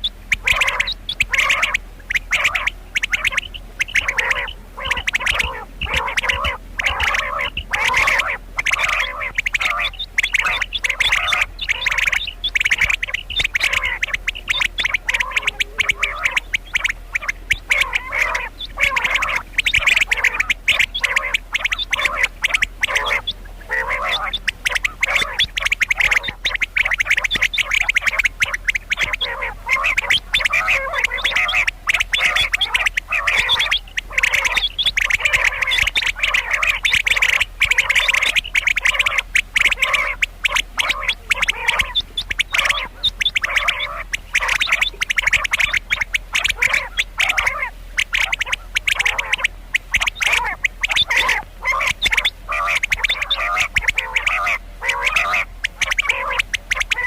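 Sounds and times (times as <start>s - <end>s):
quail calling raspy notes: 0.0s - 57.0s.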